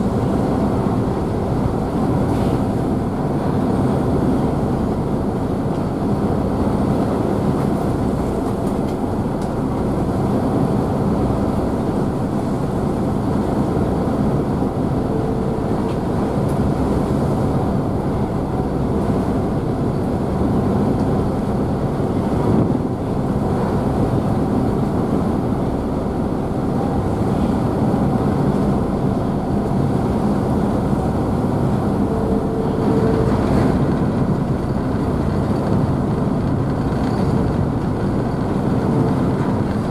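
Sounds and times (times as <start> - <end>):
ship engines rumbling: 0.0 - 39.9.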